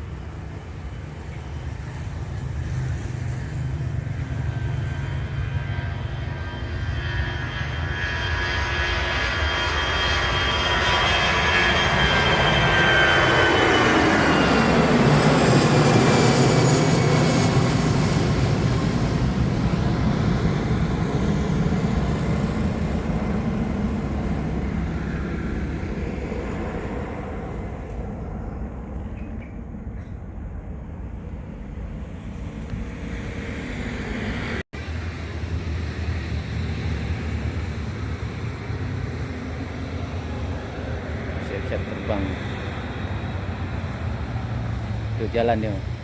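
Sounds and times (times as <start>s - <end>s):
airplane engines taking off: 0.0s - 46.0s.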